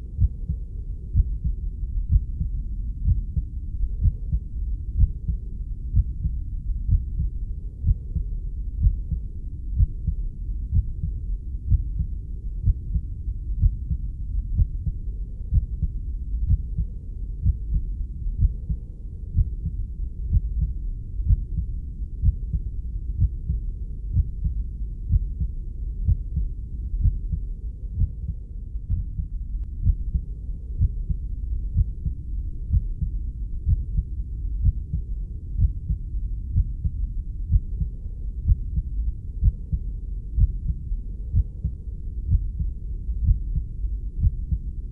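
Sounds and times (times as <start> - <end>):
heartbeat thuds: 0.0 - 44.8
continuous low rumble: 0.0 - 44.9.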